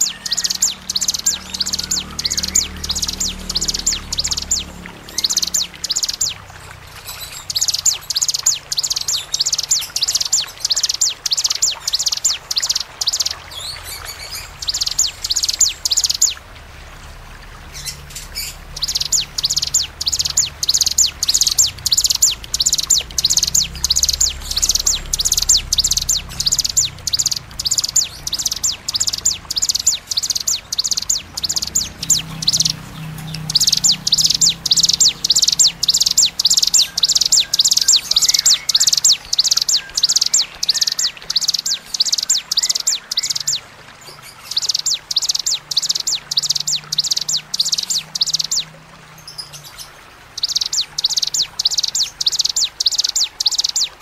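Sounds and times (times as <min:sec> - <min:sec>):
bird calls shrill rapid notes: 0:00.0 - 0:16.5, 0:17.7 - 0:48.6, 0:50.4 - 0:54.0.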